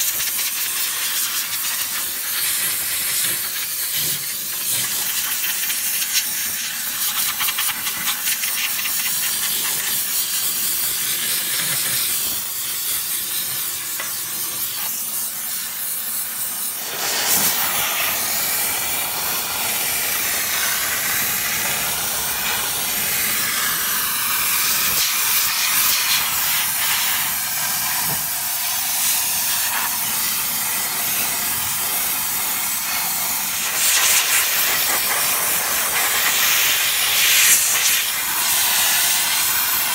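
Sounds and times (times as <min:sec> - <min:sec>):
steam cleaner hissing: 0:00.0 - 0:39.9.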